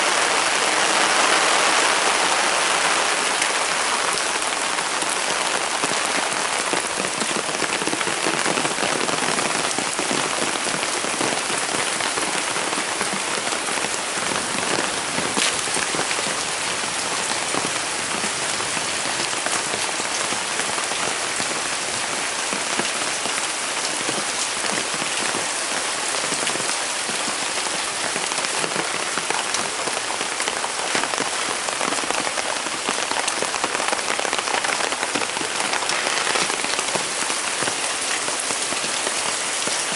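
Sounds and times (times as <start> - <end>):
heavy rain in forest: 0.0 - 39.9
raindrops ticking on leaves: 0.0 - 39.9.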